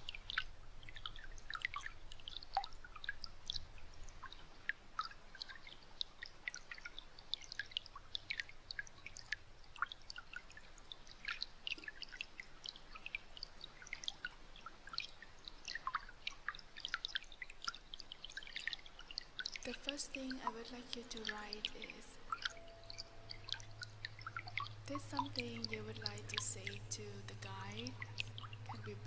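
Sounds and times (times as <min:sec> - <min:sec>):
soft dripping plinks: 0:00.0 - 0:29.0.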